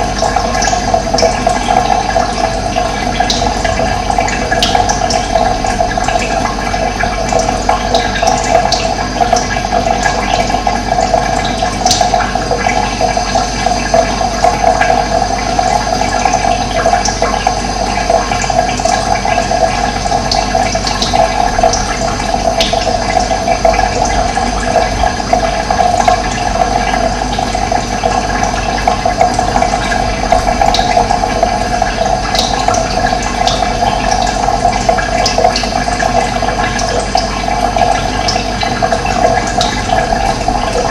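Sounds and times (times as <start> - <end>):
water rushing: 0.0 - 13.4, 19.1 - 40.9.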